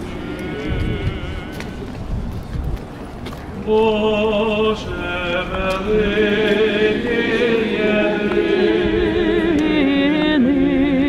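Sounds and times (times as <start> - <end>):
voices singing a chant: 0.0 - 2.0, 3.7 - 11.0.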